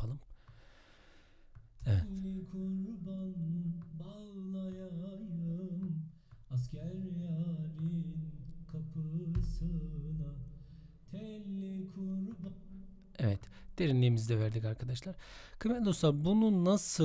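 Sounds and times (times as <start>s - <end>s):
man singing folk song: 1.8s - 17.0s.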